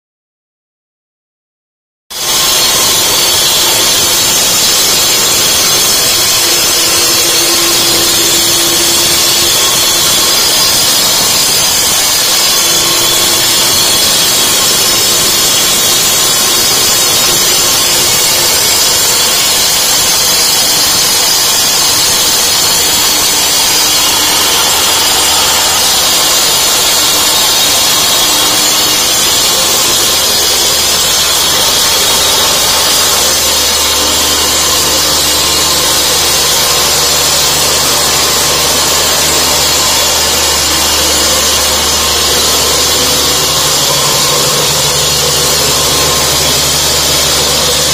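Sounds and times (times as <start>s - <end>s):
concrete cutter grinding: 2.1s - 47.9s.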